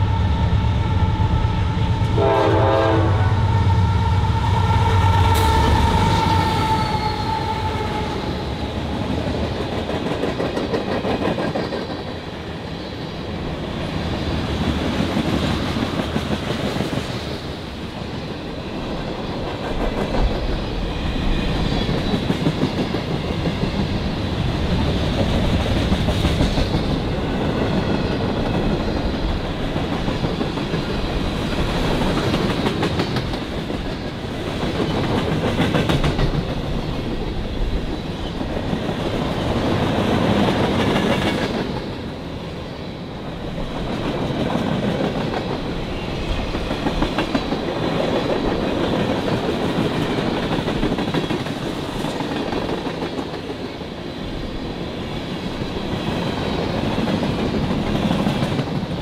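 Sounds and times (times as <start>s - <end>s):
train cars rumbling past: 0.0s - 59.0s.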